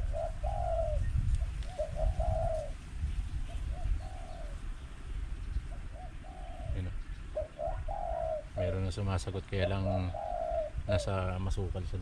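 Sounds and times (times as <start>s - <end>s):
doves cooing: 0.0s - 12.0s
wind on microphone: 0.0s - 12.0s.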